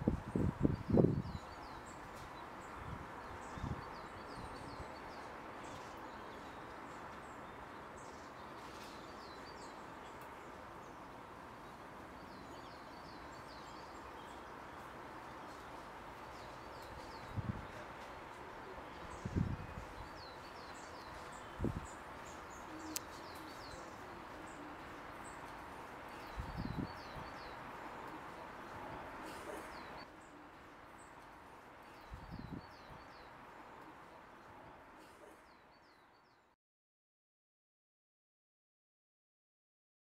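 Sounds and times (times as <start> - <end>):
small birds chirping: 0.1 - 36.5
steady background hiss: 1.4 - 36.4.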